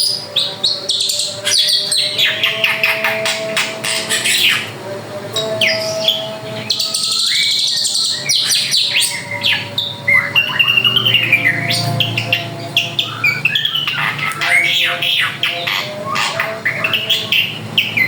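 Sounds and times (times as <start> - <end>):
bird singing: 0.0 - 18.0.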